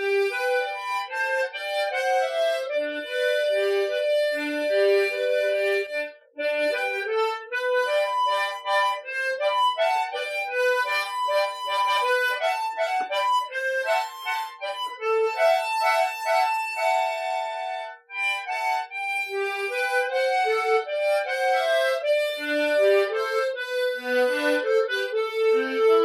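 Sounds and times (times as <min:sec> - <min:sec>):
harmonica playing slow ballad: 0:00.0 - 0:26.0.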